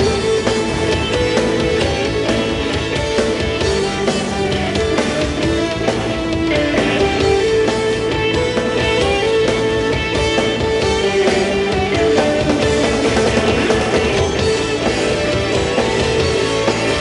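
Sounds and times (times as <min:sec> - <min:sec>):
electric guitar lines: 0:00.0 - 0:17.0
rock band playing live: 0:00.0 - 0:17.0.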